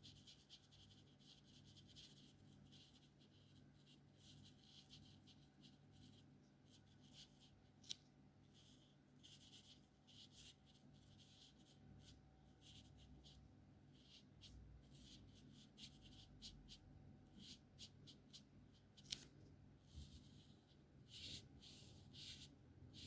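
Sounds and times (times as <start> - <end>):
markers scratching on paper: 0.0 - 19.3, 19.9 - 23.0.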